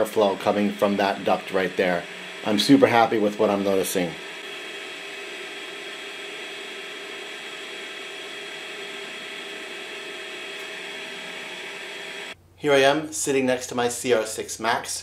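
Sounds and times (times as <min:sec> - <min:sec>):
thin whining tones: 0:00.0 - 0:12.4
fans whirring: 0:00.0 - 0:15.0.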